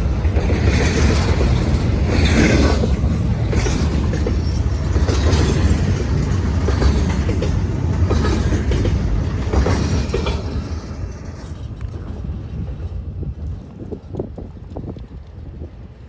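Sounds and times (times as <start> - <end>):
wheels clattering over rail joints: 0.0 - 15.4
freight train rumbling past: 0.0 - 16.0.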